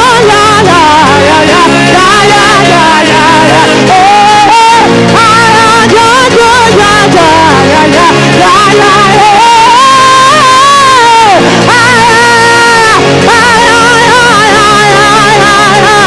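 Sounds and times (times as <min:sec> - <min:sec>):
person singing gospel melody: 0:00.0 - 0:16.0
sustained instrumental chords: 0:00.0 - 0:16.0.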